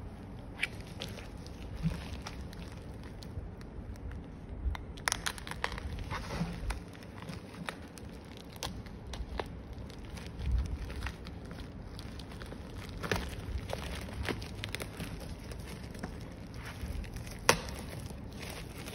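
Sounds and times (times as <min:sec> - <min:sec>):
plastic bag crinkling and tearing: 0:00.6 - 0:18.9.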